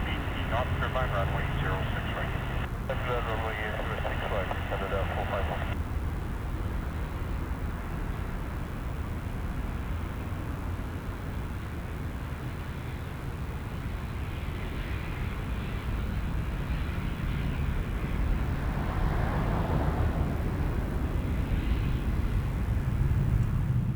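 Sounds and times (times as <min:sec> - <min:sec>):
jet engine rumble with hiss: 0:00.0 - 0:23.9.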